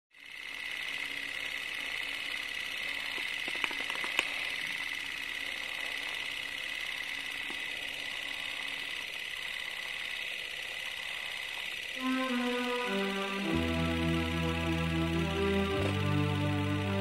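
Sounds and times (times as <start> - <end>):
film projector whirring: 0.1 - 17.0.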